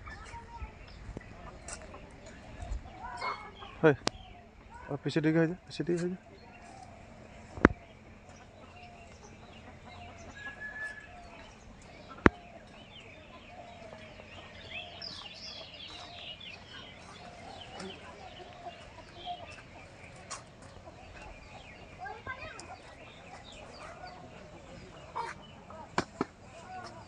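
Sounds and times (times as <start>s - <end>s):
birds chirping: 0.0s - 27.0s
bird clucking: 1.2s - 27.0s.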